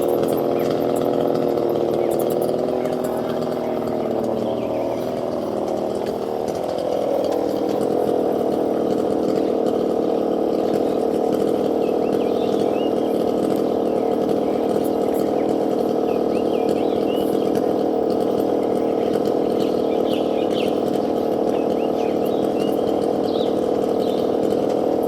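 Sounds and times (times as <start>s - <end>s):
small engine droning: 0.0s - 25.0s.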